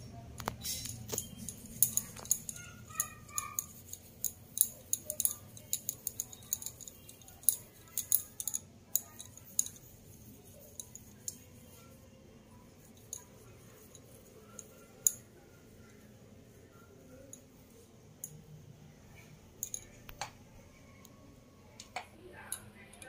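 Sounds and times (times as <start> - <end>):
bangles clinking: 0.0 - 18.5, 19.2 - 20.1.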